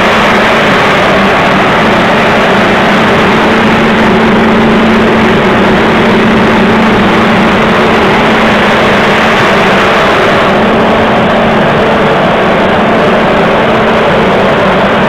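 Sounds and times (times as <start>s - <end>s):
loud fan running: 0.0s - 15.0s.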